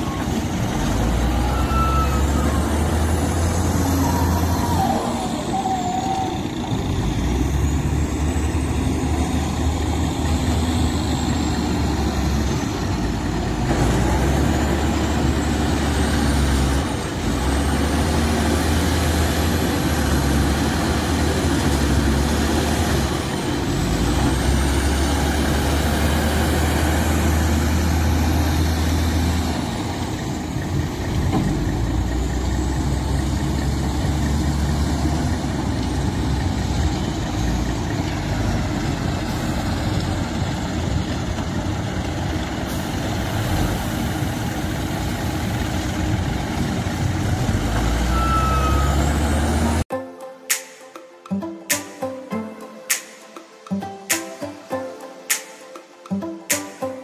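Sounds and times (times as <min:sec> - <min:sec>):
diesel engine revving: 0:00.0 - 0:49.9
high engine whine: 0:00.0 - 0:49.9.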